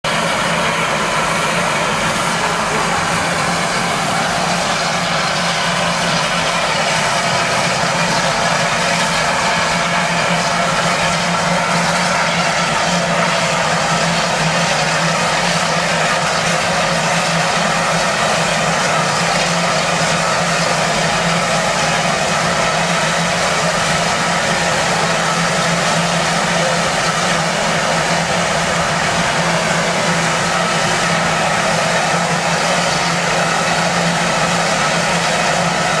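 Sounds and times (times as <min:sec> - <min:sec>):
steam locomotive hissing: 0:00.1 - 0:36.0.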